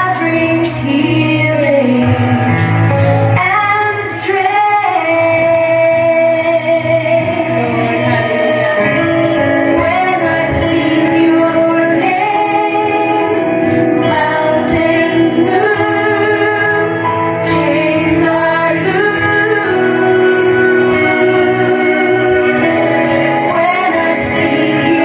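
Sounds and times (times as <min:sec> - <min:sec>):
instrumental backing: 0:00.0 - 0:25.0
woman singing: 0:00.0 - 0:25.0.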